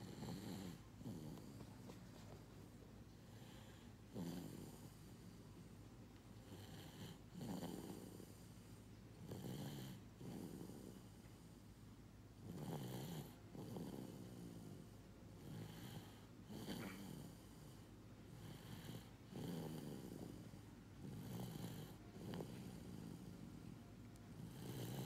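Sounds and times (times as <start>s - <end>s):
faint snoring: 0.0s - 1.8s, 3.2s - 5.7s, 6.4s - 11.7s, 12.4s - 23.6s, 24.4s - 25.0s.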